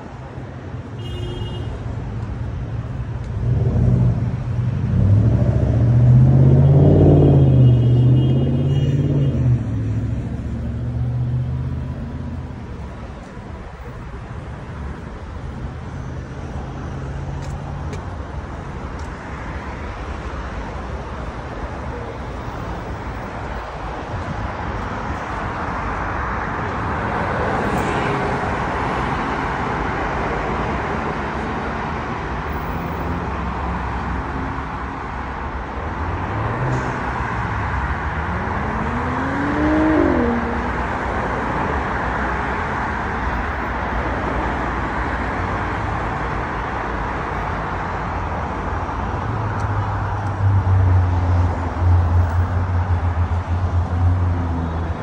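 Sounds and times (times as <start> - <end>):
highway traffic rushing: 0.0 - 55.0.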